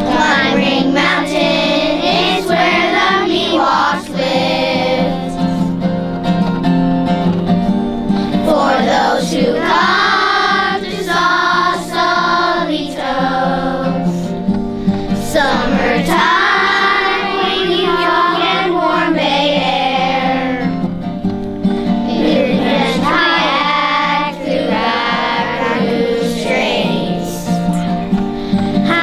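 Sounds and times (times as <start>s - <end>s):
children singing together: 0.0s - 5.8s, 8.2s - 14.4s, 15.0s - 20.9s, 22.0s - 27.9s, 28.7s - 29.0s
instrumental accompaniment: 0.0s - 29.0s.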